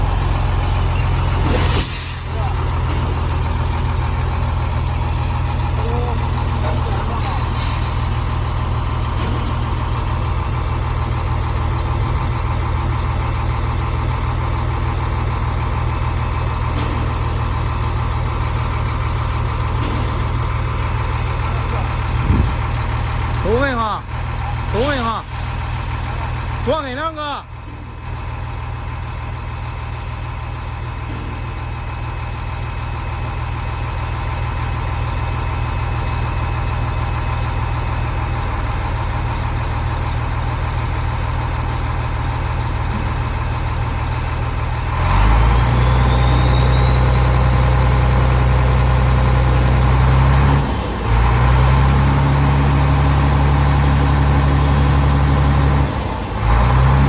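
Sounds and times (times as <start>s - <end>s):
truck diesel engine idling: 0.0s - 57.0s.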